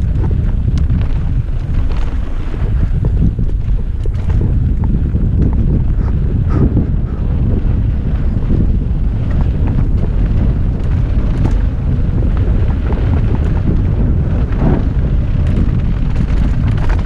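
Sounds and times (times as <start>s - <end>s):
bike clicks and rattles: 0.0s - 17.0s
wind rumble on microphone: 0.0s - 17.0s.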